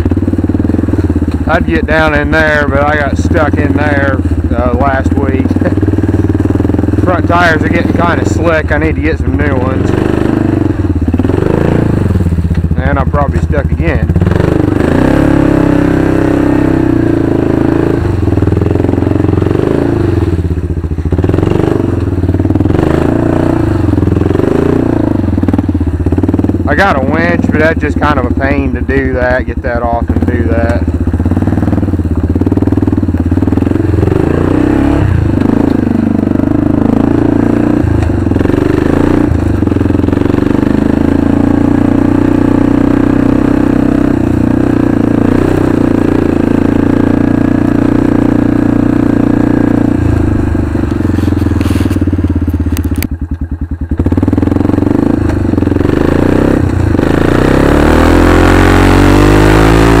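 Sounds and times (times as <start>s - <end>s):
atv engine revving: 0.0s - 60.0s.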